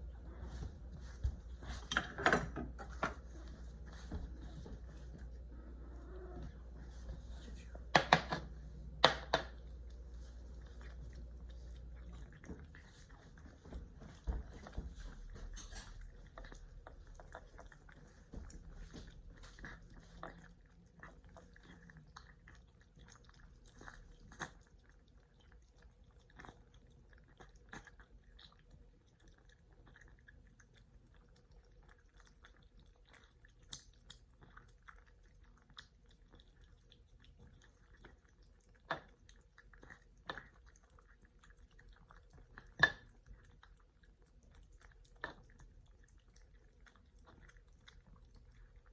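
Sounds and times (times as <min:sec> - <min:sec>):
cats chewing food: 0:00.0 - 0:48.9.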